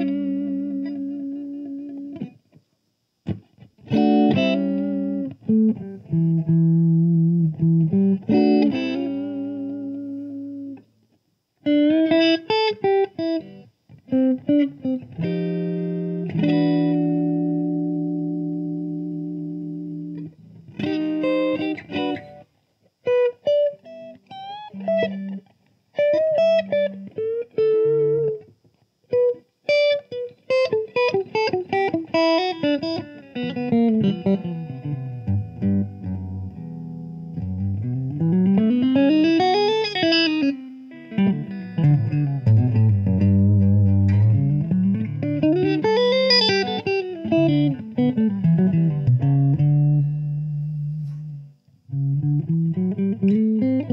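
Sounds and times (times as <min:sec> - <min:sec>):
electric guitar playing: 0:00.0 - 0:02.5, 0:03.2 - 0:10.9, 0:11.6 - 0:53.9.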